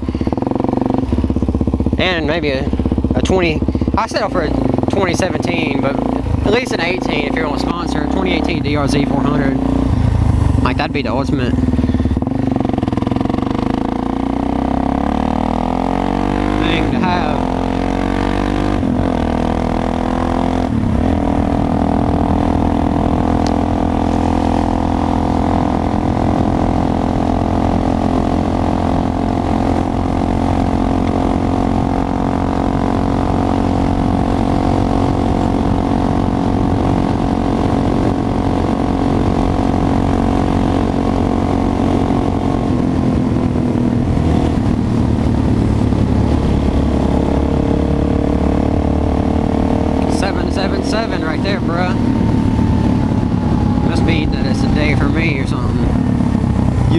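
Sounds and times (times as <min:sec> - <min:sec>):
motorcycle engine cruising: 0:00.0 - 0:56.9.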